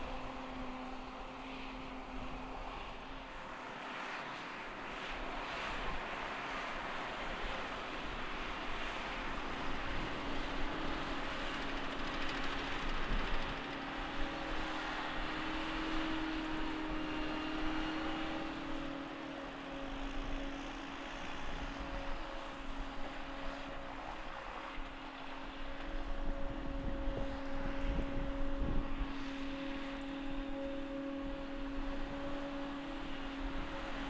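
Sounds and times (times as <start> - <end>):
forage harvester drone and whine: 0.0 - 34.0.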